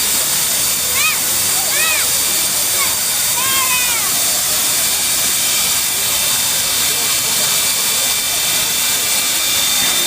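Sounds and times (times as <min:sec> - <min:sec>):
steam hissing: 0:00.0 - 0:10.0.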